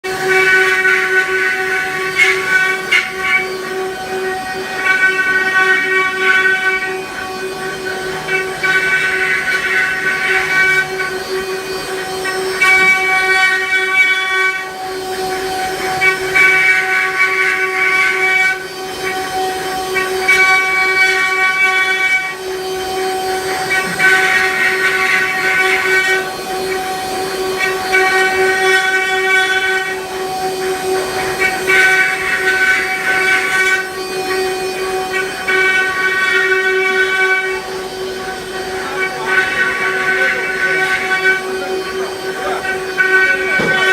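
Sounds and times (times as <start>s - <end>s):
wood router spindle whine: 0.0s - 43.9s.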